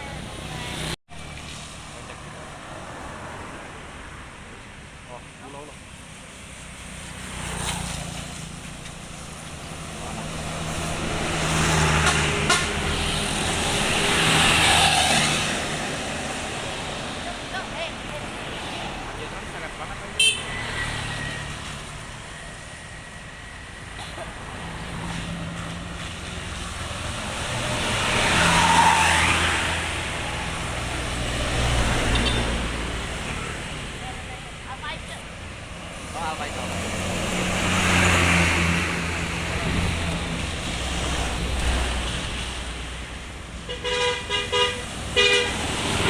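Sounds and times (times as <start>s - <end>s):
bus engine hum and tyre noise: 0.0s - 46.0s
vehicle passing by: 5.4s - 43.5s.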